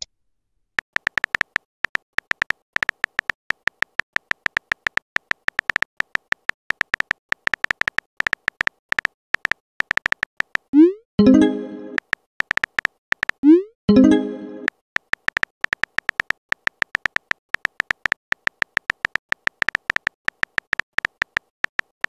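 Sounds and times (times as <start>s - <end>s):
phone keyboard tapping: 0.8s - 10.7s, 12.0s - 13.4s, 14.6s - 22.0s.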